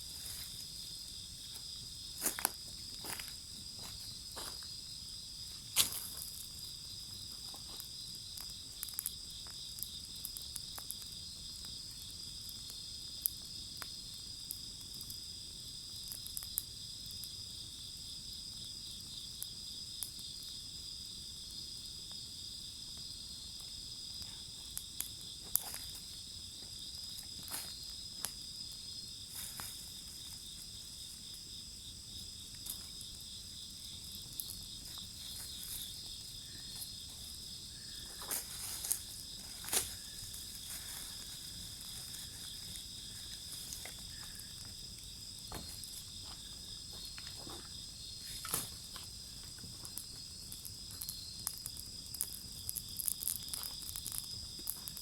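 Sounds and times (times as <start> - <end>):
firewood crackling: 0.0 - 55.0
insects chirping: 0.0 - 55.0.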